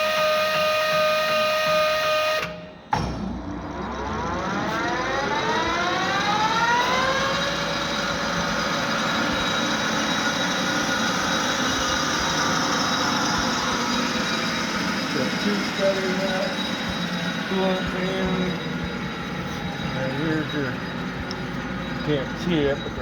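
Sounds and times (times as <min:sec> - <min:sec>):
lathe spindle whine: 0:00.0 - 0:23.0.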